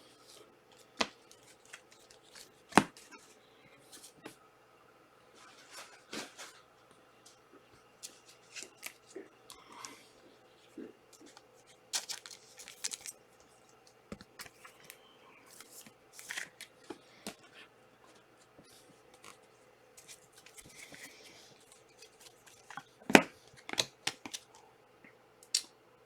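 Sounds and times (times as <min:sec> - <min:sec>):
cards and wrappers rustling: 0:00.1 - 0:04.3, 0:05.4 - 0:06.7, 0:07.3 - 0:24.6.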